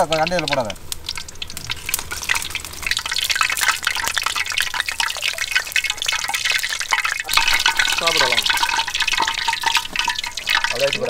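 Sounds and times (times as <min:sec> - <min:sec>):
syrup dripping and splashing: 0:00.0 - 0:11.0.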